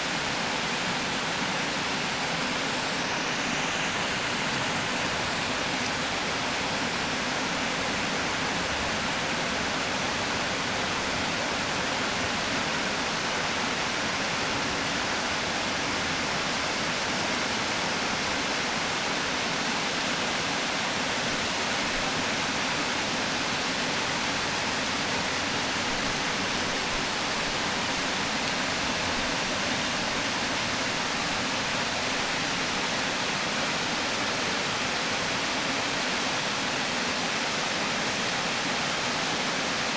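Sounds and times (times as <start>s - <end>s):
water rushing over a weir: 0.0s - 39.9s.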